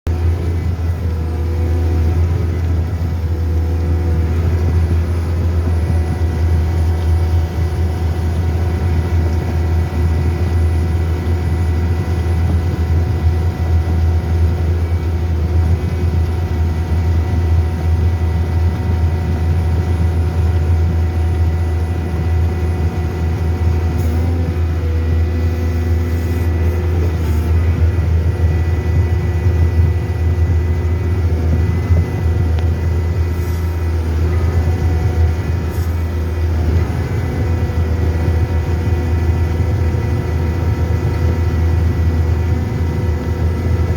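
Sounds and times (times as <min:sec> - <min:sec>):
excavator diesel engine running: 0:00.1 - 0:43.9.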